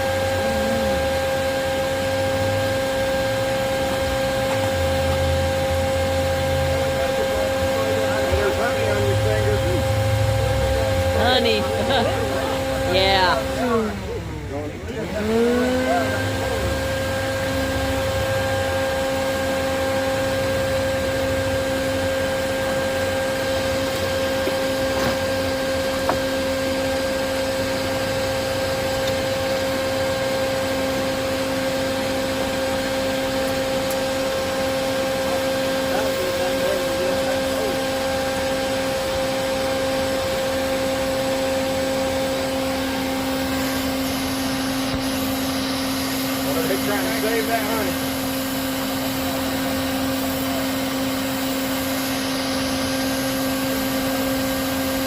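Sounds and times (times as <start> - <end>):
vacuum motor whining: 0.0 - 55.0.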